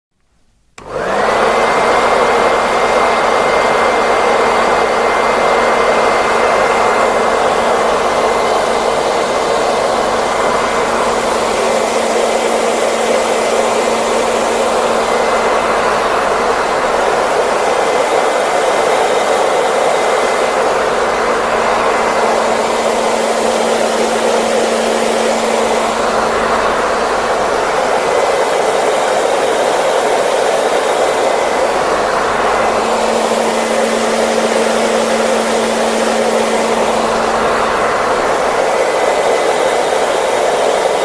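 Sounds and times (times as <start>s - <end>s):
hair dryer running: 0.8s - 41.0s.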